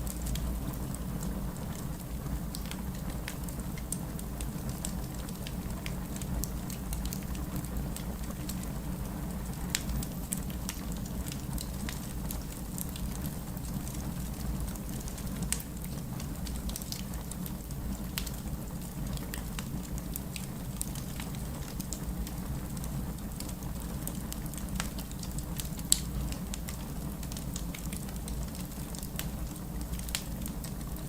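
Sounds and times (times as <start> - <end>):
fireplace crackling: 0.0 - 31.0
rain: 0.0 - 31.0.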